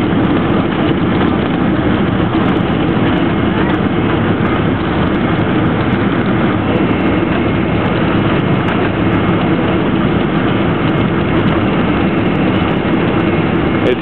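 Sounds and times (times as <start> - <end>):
jet engine rumble: 0.0 - 14.0
rushing air: 0.0 - 14.0.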